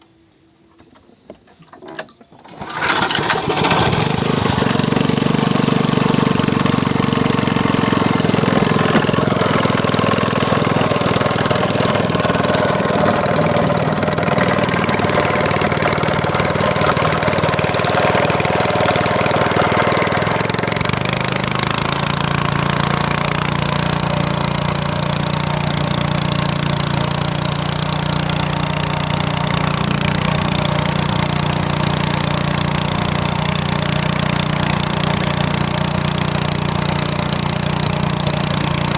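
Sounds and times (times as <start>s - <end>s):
small motor engine running: 2.4s - 38.9s.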